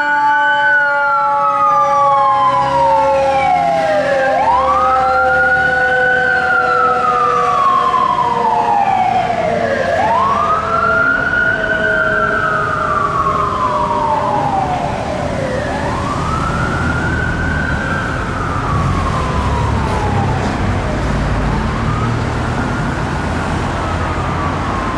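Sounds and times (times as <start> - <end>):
siren wailing: 0.0 - 24.9
steady siren tone: 0.0 - 24.9.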